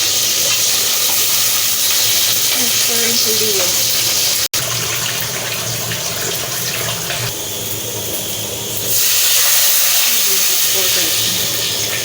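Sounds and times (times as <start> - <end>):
water pouring into a pot: 0.0 - 12.0.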